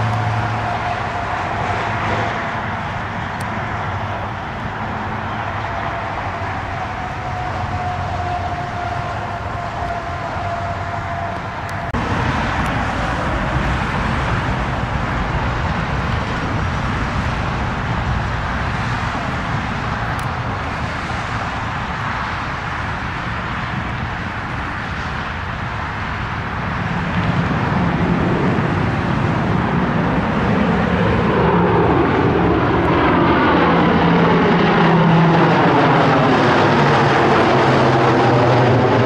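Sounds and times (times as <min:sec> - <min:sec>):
jet engine whine: 0:00.0 - 0:39.0.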